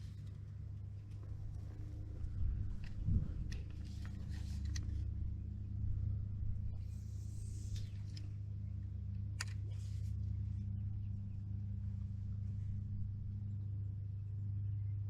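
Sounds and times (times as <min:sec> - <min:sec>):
lawnmower engine humming: 0:00.0 - 0:15.0.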